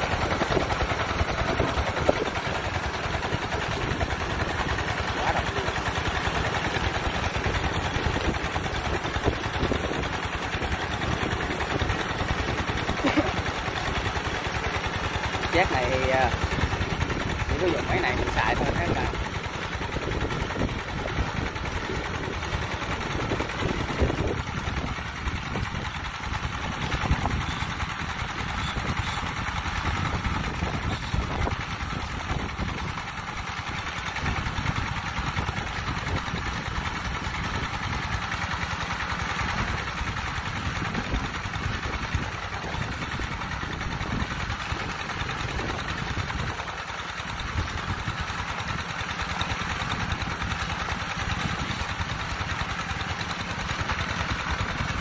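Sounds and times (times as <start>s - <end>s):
single-cylinder diesel engine running: 0.0s - 55.0s.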